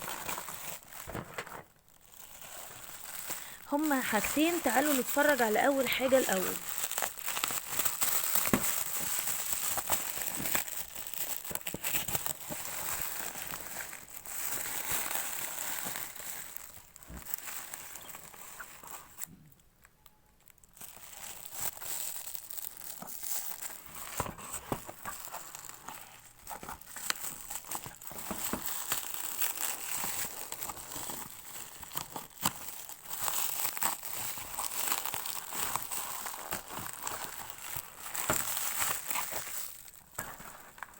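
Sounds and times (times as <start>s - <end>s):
packaging crinkling and tearing: 0.0s - 19.3s, 20.0s - 40.9s.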